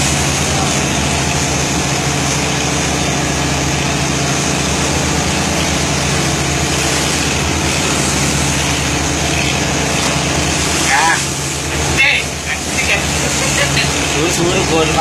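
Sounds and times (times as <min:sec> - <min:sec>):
boat engine humming: 0:00.0 - 0:15.0
constant rushing noise: 0:00.0 - 0:15.0.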